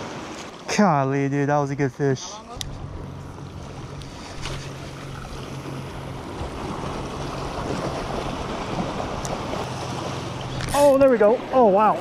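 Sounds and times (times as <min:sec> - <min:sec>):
steady low hum: 0:01.8 - 0:12.0.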